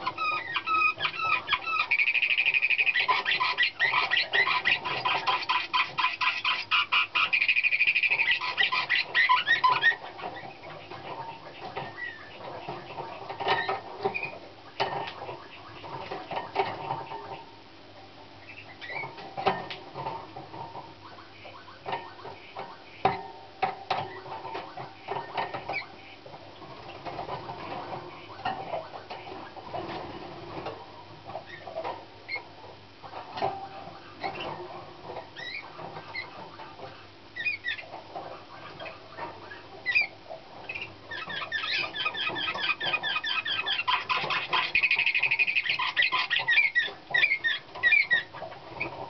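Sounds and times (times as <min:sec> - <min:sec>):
canary singing: 0:00.0 - 0:17.5, 0:18.4 - 0:23.3, 0:24.0 - 0:29.9, 0:31.0 - 0:49.0.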